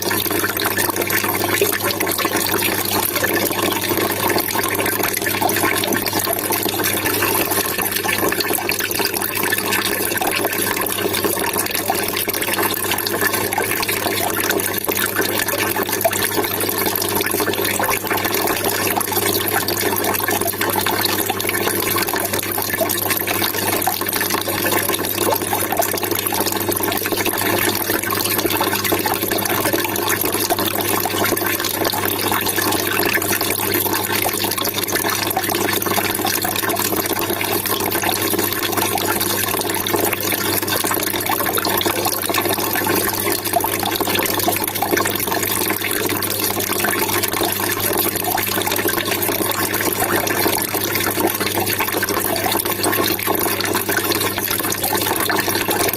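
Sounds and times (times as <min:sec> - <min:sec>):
water trickling and splashing: 0:00.0 - 0:55.9.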